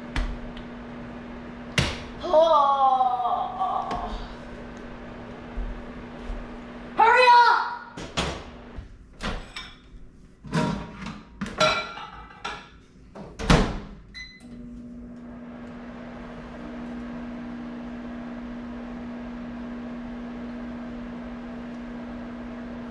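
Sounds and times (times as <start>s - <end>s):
microwave hum and fan whir: 0.0s - 22.9s.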